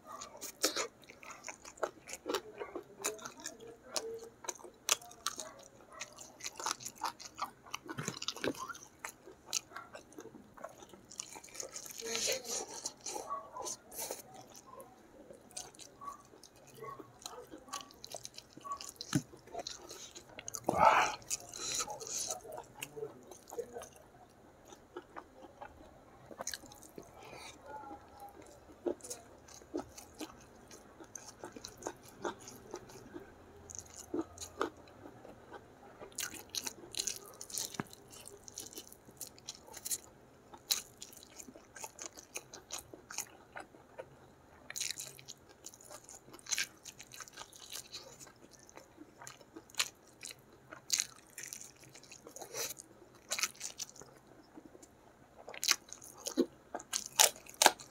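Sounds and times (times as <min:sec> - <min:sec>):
chewing and crunchy bites: 0:00.0 - 0:57.9.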